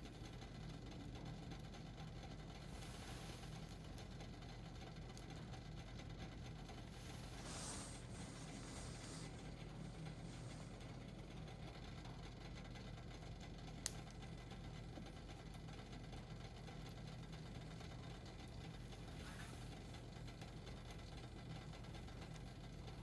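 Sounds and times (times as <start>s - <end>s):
wood fire crackling: 0.1s - 23.0s
steady low hum: 0.7s - 23.0s.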